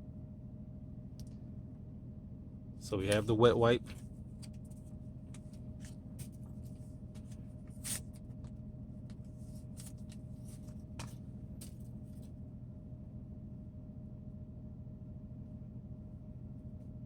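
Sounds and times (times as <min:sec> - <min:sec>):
generator hum: 0:00.0 - 0:17.0.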